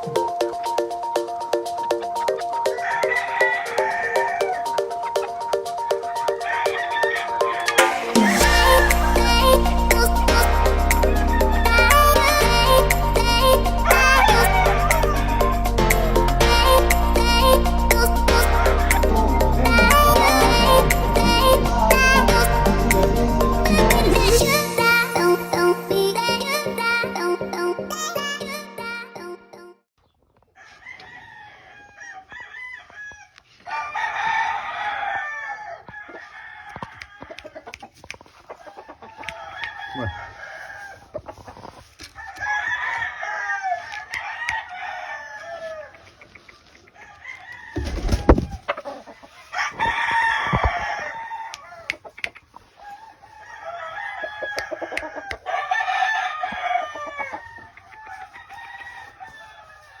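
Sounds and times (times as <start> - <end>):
chickens clucking: 0.0 - 24.8, 33.7 - 43.0, 43.7 - 58.2
roosters crowing: 0.0 - 24.8, 30.4 - 60.0.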